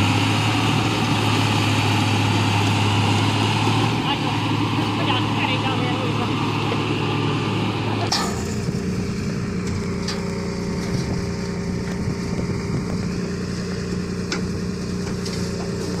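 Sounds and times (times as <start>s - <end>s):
heavy diesel machinery running: 0.0s - 16.0s
truck engine holding steady note: 0.0s - 16.0s.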